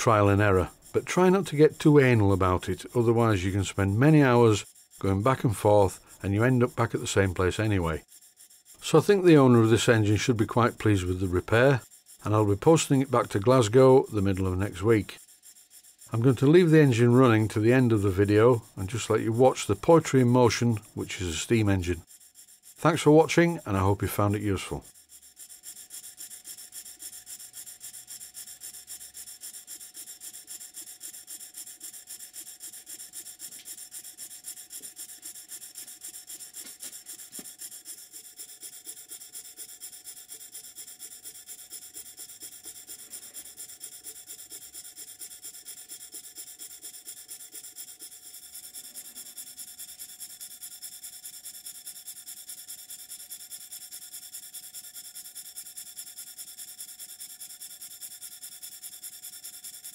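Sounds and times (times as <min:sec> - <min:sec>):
model steam engine hissing puffs: 0:00.0 - 0:59.9.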